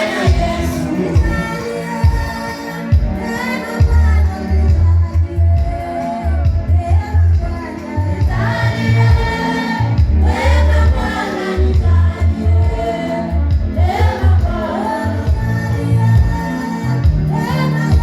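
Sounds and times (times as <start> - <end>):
steady bass beat: 0.0 - 18.0
voices singing gospel song: 0.0 - 18.0.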